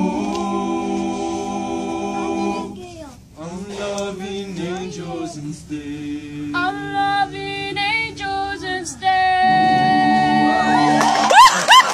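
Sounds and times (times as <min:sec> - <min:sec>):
boys singing a cappella harmony: 0:00.0 - 0:11.2.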